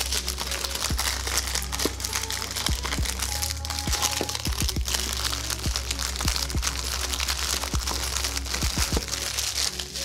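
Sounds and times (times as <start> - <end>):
music with deep bass beat: 0.0 - 10.0
plastic wrapping crinkling: 0.0 - 10.0.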